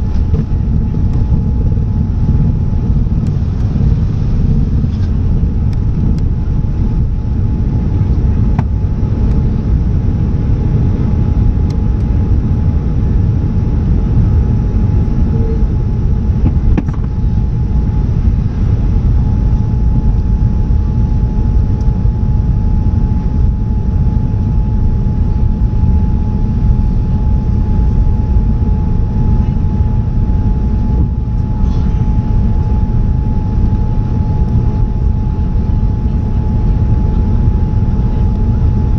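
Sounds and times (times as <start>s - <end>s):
jet engines on takeoff: 0.0s - 38.9s.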